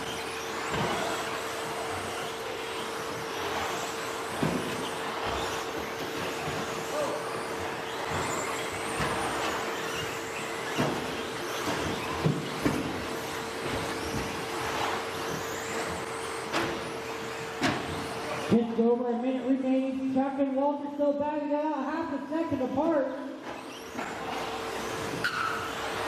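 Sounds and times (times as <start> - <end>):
faint high motor whines: 0.0 - 26.0.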